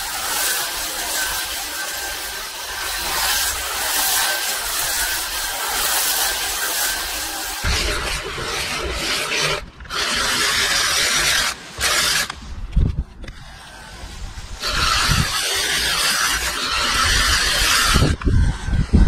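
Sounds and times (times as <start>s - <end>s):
hedge trimmer cutting foliage: 0.0s - 12.4s, 14.6s - 18.4s.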